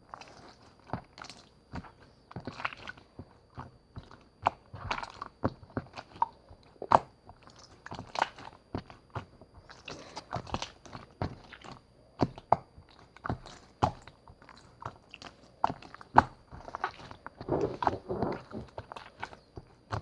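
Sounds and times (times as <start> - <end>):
slime squelching by hand: 0.0 - 20.0.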